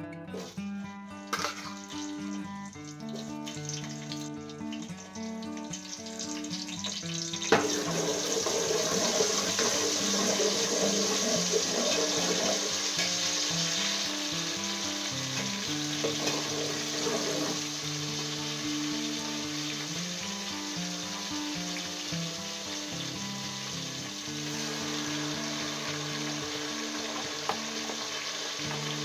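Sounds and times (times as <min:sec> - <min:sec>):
background music: 0:00.0 - 0:29.0
onions sizzling in hot oil: 0:01.3 - 0:29.0.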